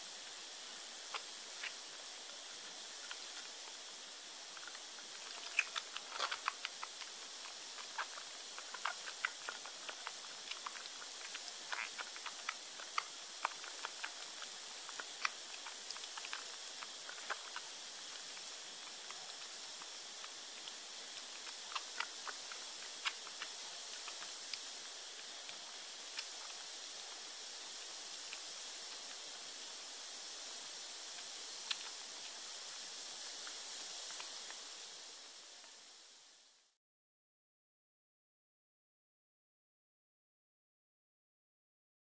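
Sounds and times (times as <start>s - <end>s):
background hiss: 0.0s - 36.8s
kitten suckling wet clicks: 0.9s - 34.6s.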